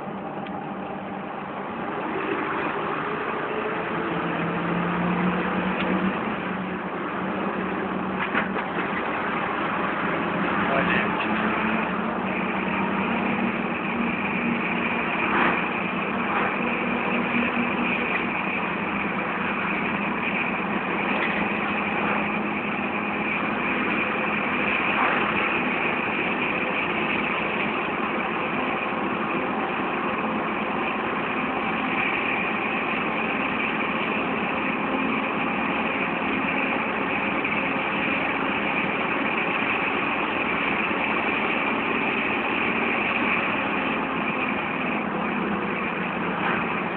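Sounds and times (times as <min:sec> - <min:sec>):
vehicle engine and road noise: 0:00.0 - 0:46.9.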